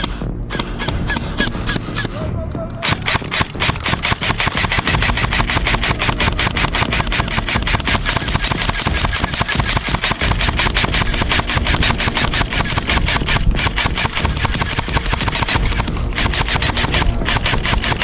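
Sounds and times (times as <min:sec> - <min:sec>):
automatic gunfire clatter: 0:02.8 - 0:18.0.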